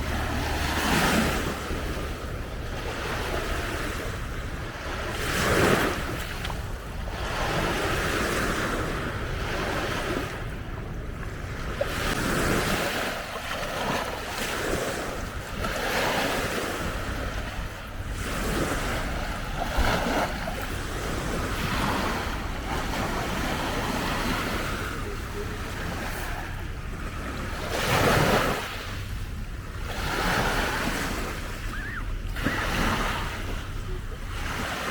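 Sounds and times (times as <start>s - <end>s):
lake waves washing onto beach: 0.0s - 34.9s
wind rumbling on microphone: 0.0s - 34.9s.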